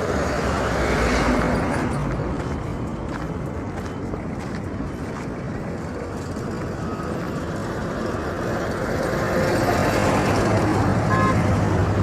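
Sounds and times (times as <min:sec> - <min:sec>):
road traffic noise: 0:00.0 - 0:12.0
vehicle approaching: 0:00.0 - 0:12.0.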